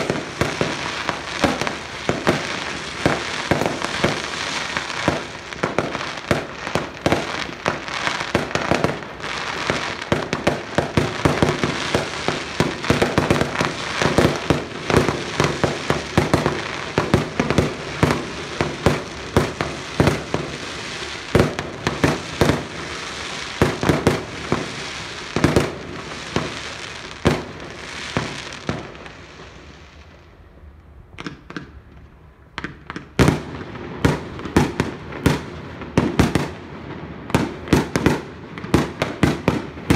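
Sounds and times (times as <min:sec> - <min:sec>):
fireworks crackling: 0:00.0 - 0:39.9.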